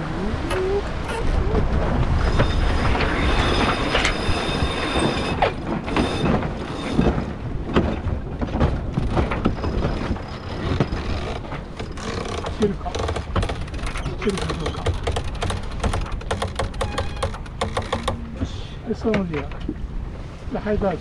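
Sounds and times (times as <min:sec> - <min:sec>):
water rushing past hull: 0:00.0 - 0:21.0
wind buffeting microphone: 0:00.0 - 0:21.0
rigging clicks and knocks: 0:02.3 - 0:19.8.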